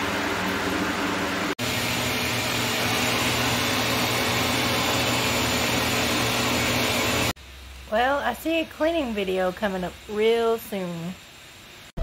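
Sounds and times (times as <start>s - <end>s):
shop vac running: 0.0s - 12.0s.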